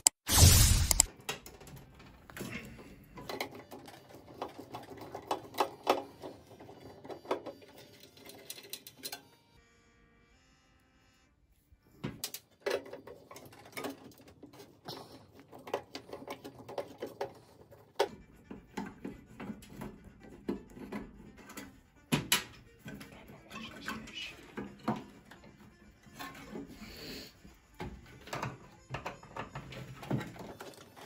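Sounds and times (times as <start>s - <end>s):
metal and plastic parts rattling: 0.8s - 9.3s, 12.1s - 26.8s, 27.8s - 31.0s.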